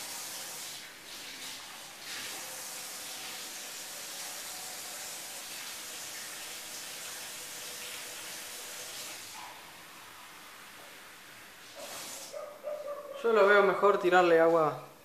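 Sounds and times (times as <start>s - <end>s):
water running from a tap: 0.0s - 12.4s.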